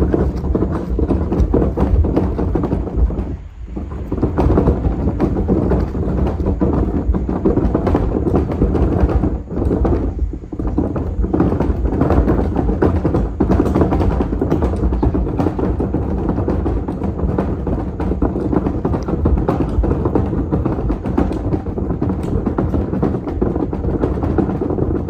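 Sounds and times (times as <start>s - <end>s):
trash can dragged over gravel: 0.0s - 25.0s.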